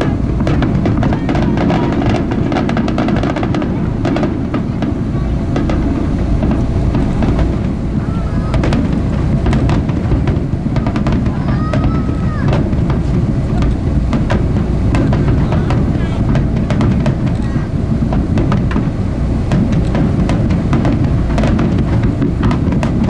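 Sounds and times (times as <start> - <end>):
fireworks bursting and crackling: 0.0 - 23.0
steady low rumble: 0.0 - 23.0.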